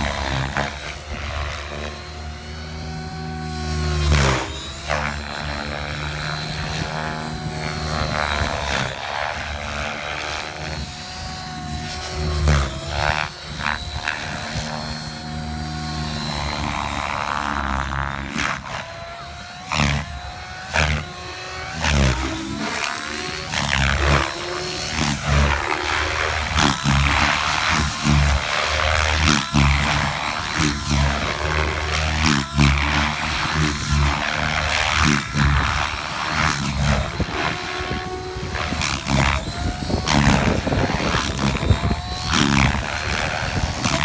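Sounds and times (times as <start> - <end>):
rc helicopter rotor whine: 0.0 - 44.0.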